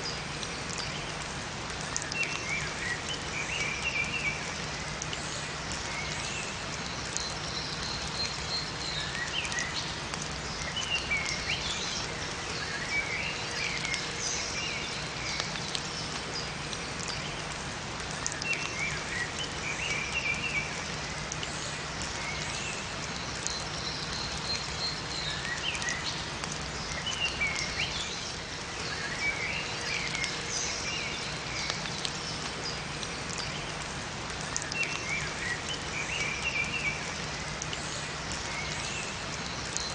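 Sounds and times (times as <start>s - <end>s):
songbirds chirping: 0.0s - 39.9s
steady rain: 0.0s - 39.9s.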